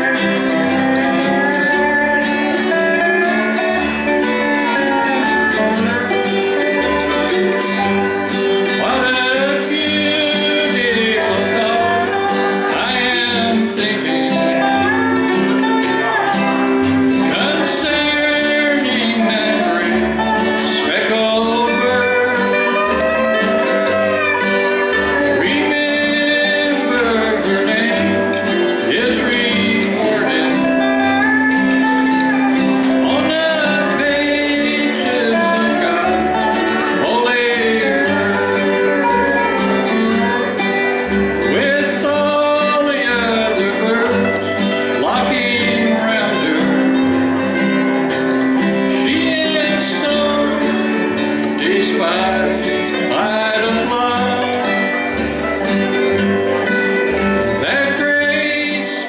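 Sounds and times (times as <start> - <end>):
acoustic guitar: 0.0 - 59.0
man singing: 0.0 - 59.0
plucked upright bass: 0.0 - 59.0.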